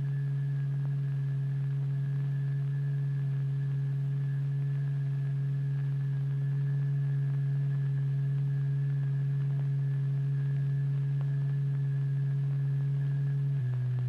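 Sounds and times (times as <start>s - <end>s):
low electronic tone: 0.0s - 14.0s.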